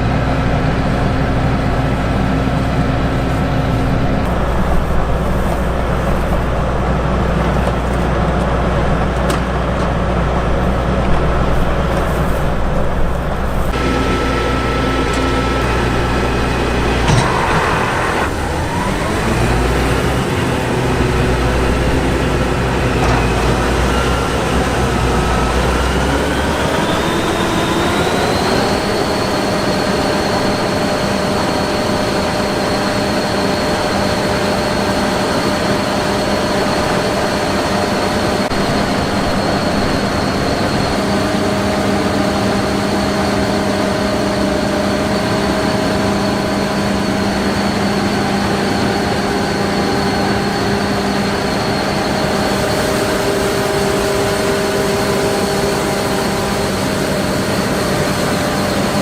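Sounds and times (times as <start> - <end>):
combine harvester drone: 0.0 - 59.0
thin high whine: 11.5 - 59.0.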